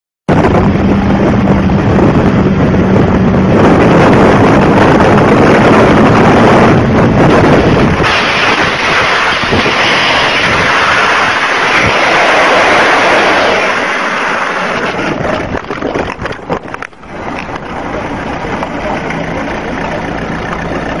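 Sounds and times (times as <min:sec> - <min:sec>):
wind on microphone: 0:00.3 - 0:19.5
low engine sound: 0:00.3 - 0:21.0
motorcycle scraping along road: 0:00.8 - 0:21.0.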